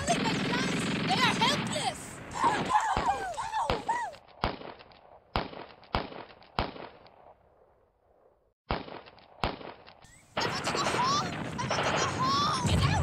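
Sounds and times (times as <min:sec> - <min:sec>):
gunshots: 0:00.0 - 0:07.4, 0:08.7 - 0:13.0.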